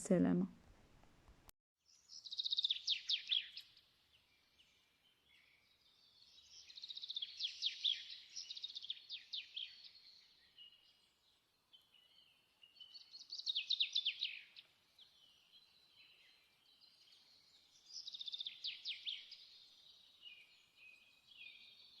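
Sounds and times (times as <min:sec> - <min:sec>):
songbird singing: 0:01.9 - 0:22.0.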